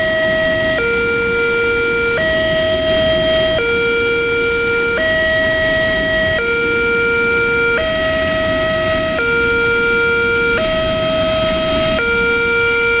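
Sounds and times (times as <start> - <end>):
level crossing two-tone alarm: 0.0 - 13.0
train wagons rumbling: 0.0 - 13.0.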